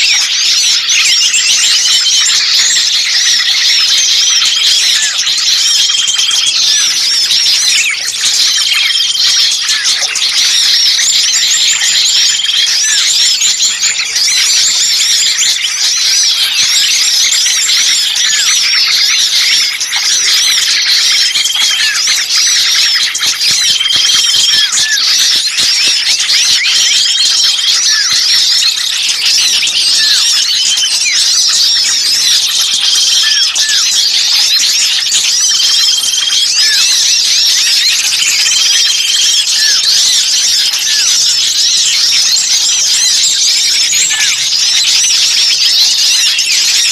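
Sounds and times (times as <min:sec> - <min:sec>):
songbirds chirping noisily: 0:00.0 - 0:46.9.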